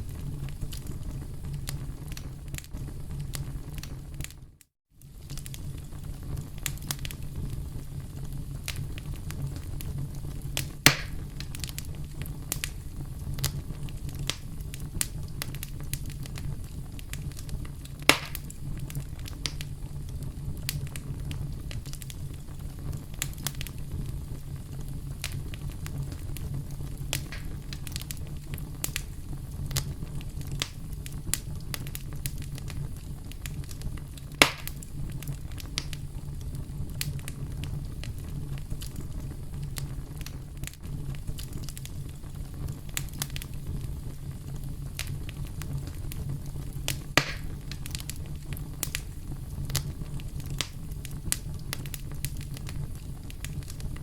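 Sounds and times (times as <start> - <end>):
campfire crackling: 0.0 - 54.0
loud fire pops: 0.0 - 54.0
low rumble of flames: 0.0 - 54.0.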